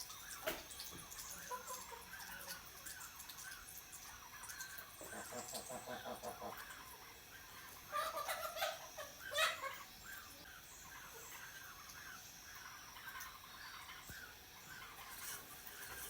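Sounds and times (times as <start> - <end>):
poultry warbling calls: 0.0 - 16.0.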